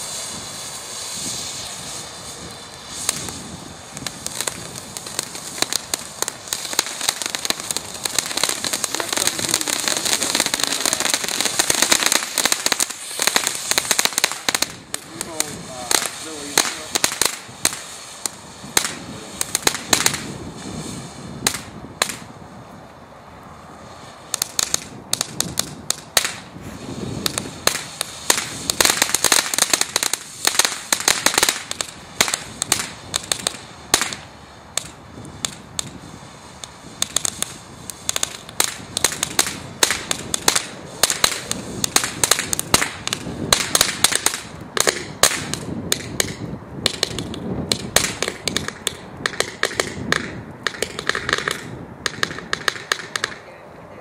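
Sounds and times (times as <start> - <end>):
firework fountain hissing and crackling: 0.0 - 54.0.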